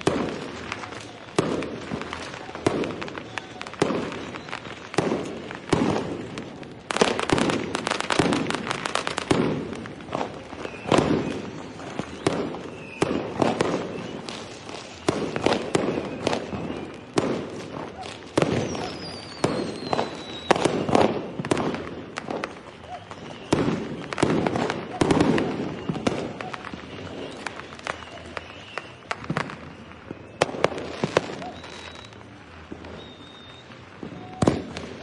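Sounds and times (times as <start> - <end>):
falling firework whistle: 0.0 - 35.0
firework bangs: 0.0 - 35.0
rapid crackling pops: 0.0 - 35.0.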